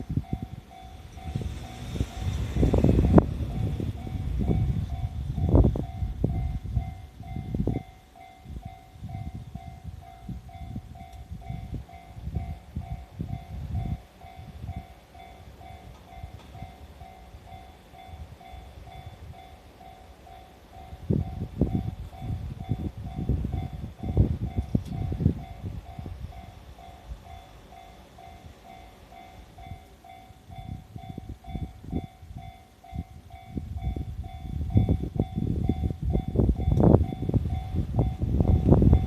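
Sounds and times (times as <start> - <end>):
level crossing warning bell ringing: 0.0 - 39.0
passing train rumbling: 0.0 - 39.0.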